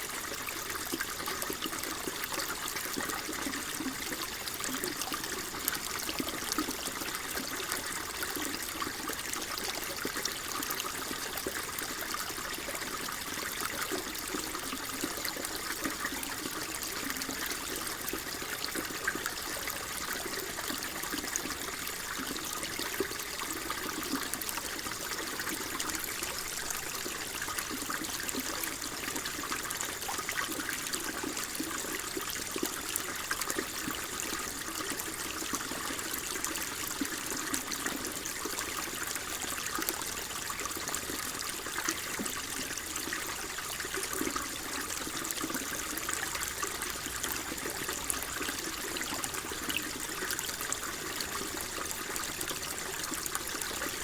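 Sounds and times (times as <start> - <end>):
water trickling and burbling: 0.0 - 54.0.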